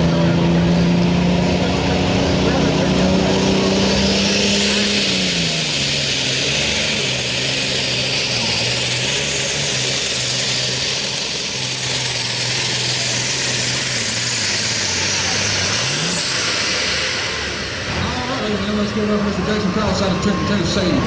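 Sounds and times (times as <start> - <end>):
engine roaring under load: 0.0 - 21.0.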